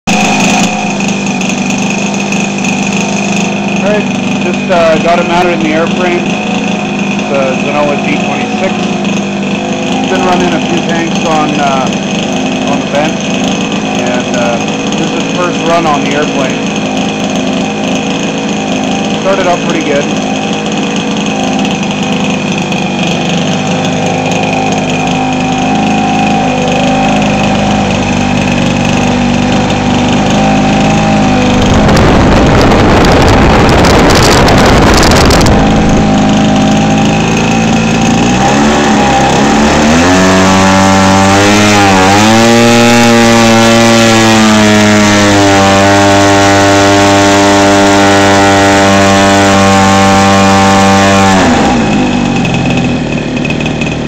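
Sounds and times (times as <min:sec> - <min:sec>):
model airplane engine running: 0:00.0 - 0:54.0.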